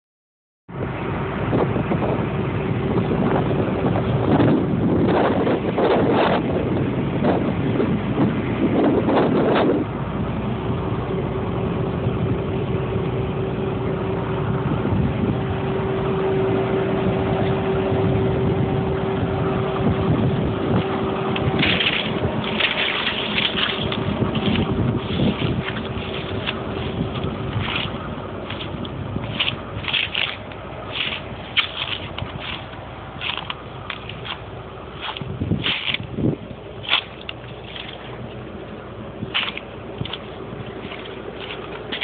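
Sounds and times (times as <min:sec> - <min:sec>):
low hum: 0:00.7 - 0:42.0
wind gusting on microphone: 0:00.7 - 0:42.0.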